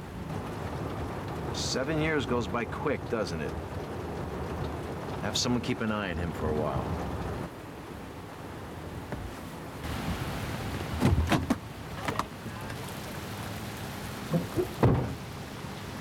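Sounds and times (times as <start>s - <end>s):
rain hissing on a surface: 0.0s - 16.0s.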